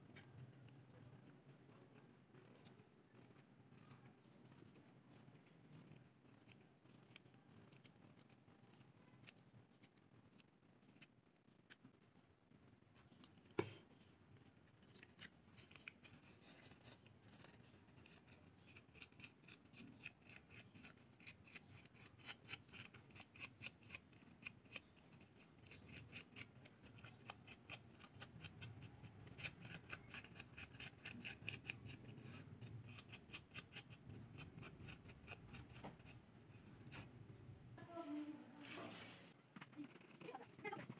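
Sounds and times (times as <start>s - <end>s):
scissors snipping paper: 0.0s - 37.1s, 39.6s - 40.9s.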